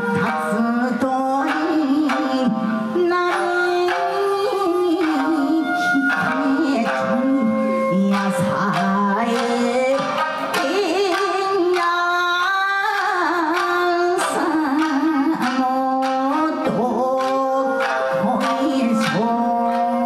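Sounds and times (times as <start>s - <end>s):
shamisen plucking: 0.0s - 20.0s
woman singing ornamented style: 0.0s - 20.0s.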